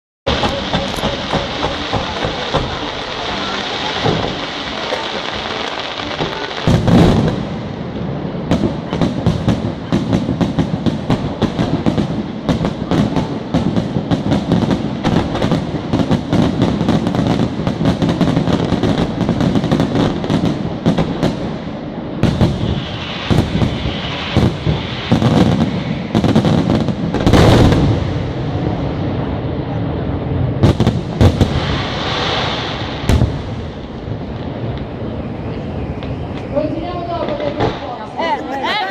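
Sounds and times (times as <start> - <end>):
firework shells booming: 0.3 - 29.3, 30.5 - 35.1
fireworks crackling: 0.3 - 38.9.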